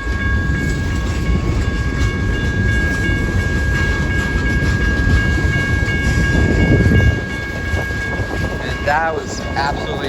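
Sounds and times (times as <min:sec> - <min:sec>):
crossing bell ringing: 0:00.0 - 0:10.0
train wheels rumbling on rail: 0:00.0 - 0:10.0.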